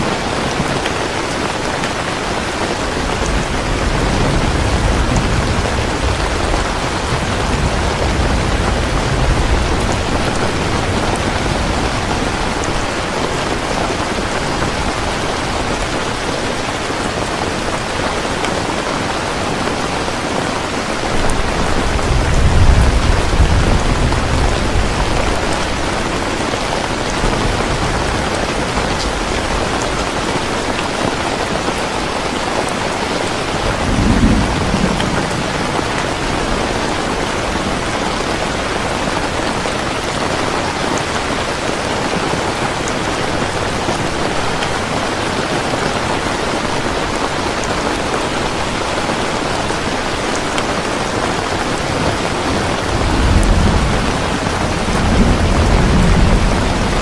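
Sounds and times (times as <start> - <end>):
heavy rain: 0.0 - 57.0
thunder rumbling: 0.1 - 18.7, 19.4 - 57.0.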